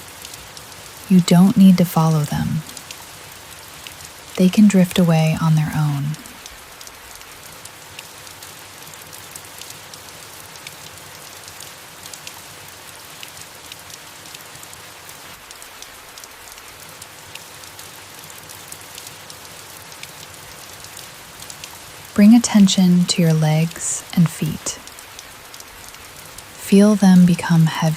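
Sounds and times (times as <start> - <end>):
rain falling on leaves: 0.0 - 22.7, 23.3 - 27.9.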